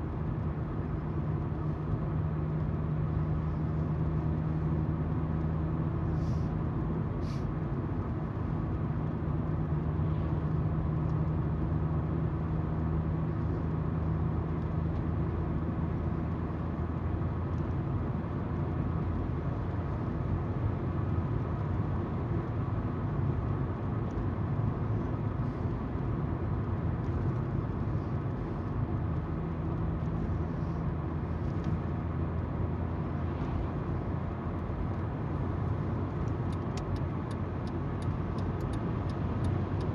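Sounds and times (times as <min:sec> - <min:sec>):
car engine hum: 0:00.0 - 0:39.9
tyres on road: 0:00.0 - 0:39.9.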